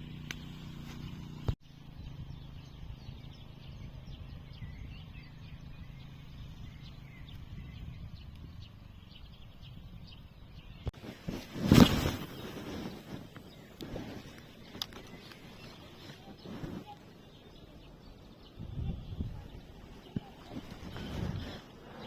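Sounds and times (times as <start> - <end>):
faint bird chirps: 0.0 - 22.0
wind rumble on microphone: 1.4 - 22.0.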